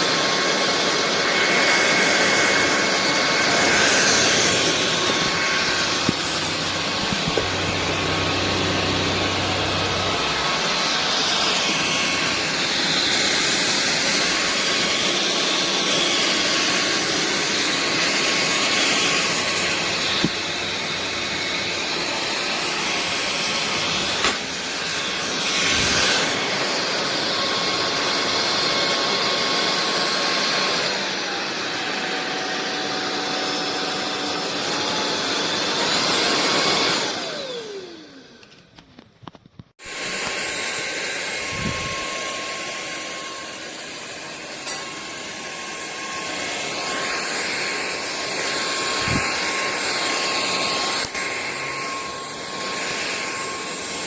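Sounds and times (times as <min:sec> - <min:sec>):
stick vacuum motor whine: 0:00.0 - 0:54.0.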